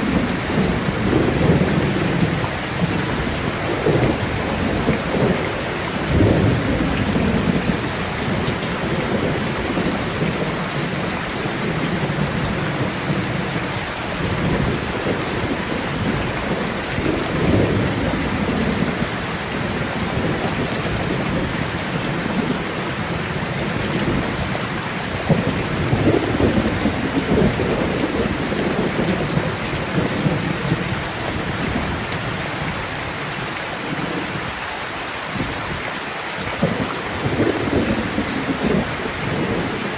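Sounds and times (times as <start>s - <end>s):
low thunder rumbling: 0.0s - 34.5s, 36.5s - 39.9s
heavy rain falling: 0.0s - 39.9s.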